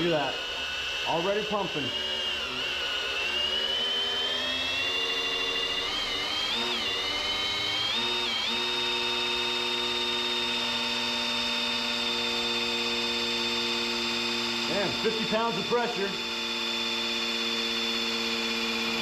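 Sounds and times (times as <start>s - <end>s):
electric drill whine: 0.0s - 19.0s.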